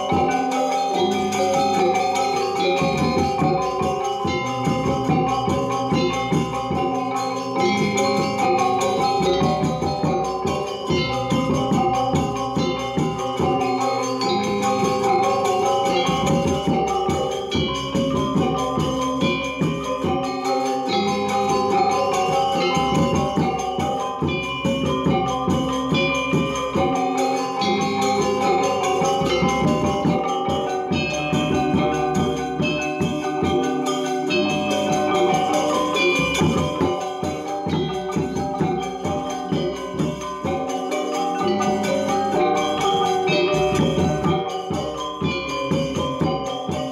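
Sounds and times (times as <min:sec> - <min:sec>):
metallophones ringing: 0:00.0 - 0:46.9
percussion: 0:00.0 - 0:46.9.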